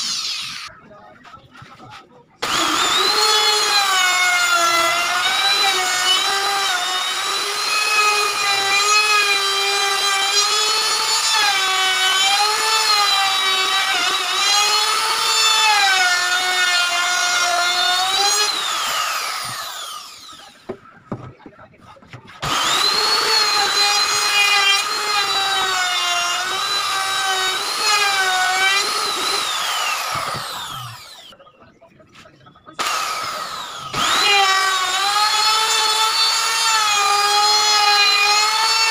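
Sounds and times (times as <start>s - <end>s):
electric router whining: 2.4s - 20.7s, 22.4s - 31.3s, 32.8s - 38.9s.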